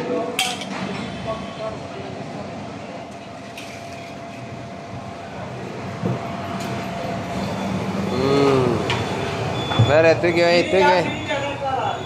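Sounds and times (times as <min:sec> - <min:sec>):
busy food stall din: 0:00.0 - 0:12.0.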